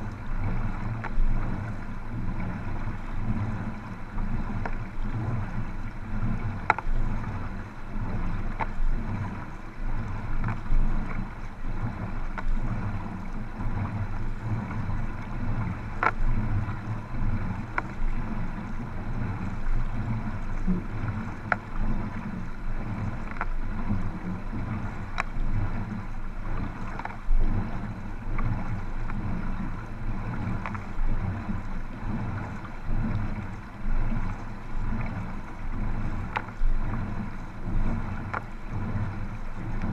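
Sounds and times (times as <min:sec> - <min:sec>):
paddle strokes splashing: 0:00.0 - 0:39.9
water rushing along hulls: 0:00.0 - 0:39.9
wind on microphone: 0:00.0 - 0:39.9.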